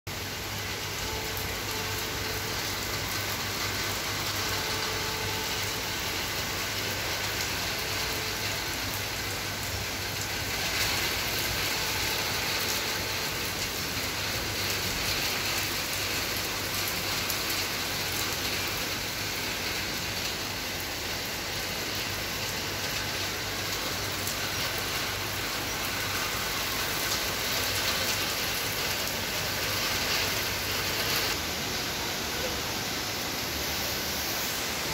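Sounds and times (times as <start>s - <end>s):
heavy rain on trees: 0.1s - 34.9s.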